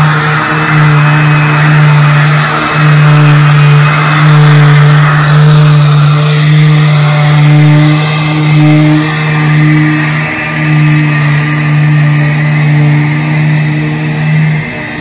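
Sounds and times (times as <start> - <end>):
power sander on wood: 0.0 - 15.0.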